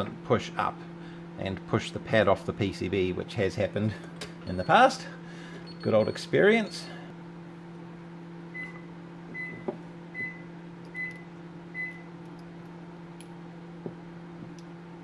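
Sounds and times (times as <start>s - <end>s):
hot air rework station humming: 0.0s - 15.0s.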